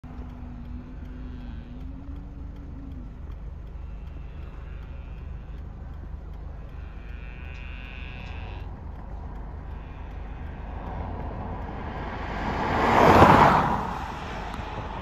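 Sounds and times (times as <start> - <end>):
steady low rumble: 0.0 - 15.0
cattle lowing: 0.1 - 15.0.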